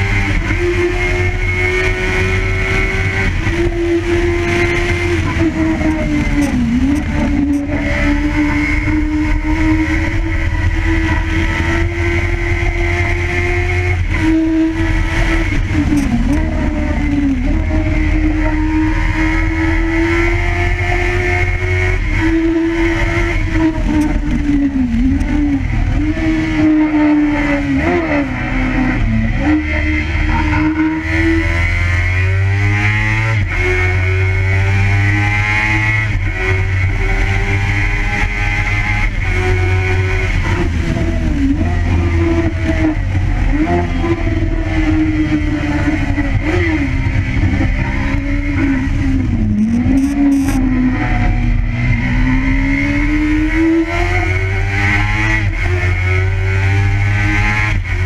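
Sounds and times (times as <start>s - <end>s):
motorcycle engine at high revs: 0.0s - 58.0s
wind rumble on microphone: 0.0s - 58.0s.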